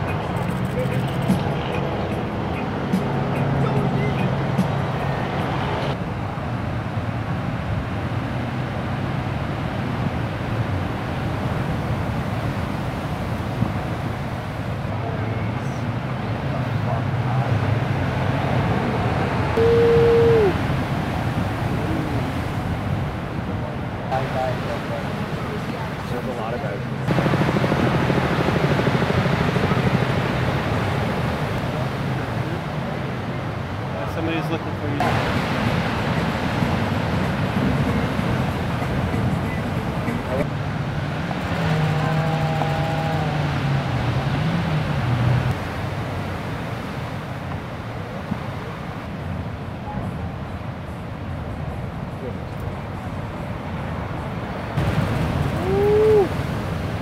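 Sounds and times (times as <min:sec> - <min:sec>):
ocean surf: 0:00.0 - 0:57.0
wind: 0:00.0 - 0:57.0.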